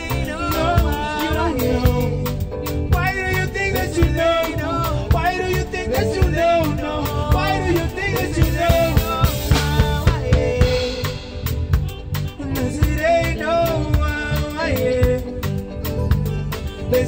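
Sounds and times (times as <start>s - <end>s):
backing vocal: 0.0s - 15.7s
drum kit beat: 0.0s - 17.0s
electric guitar: 0.0s - 17.0s
keyboard: 0.0s - 17.0s
man singing lead: 0.0s - 17.0s.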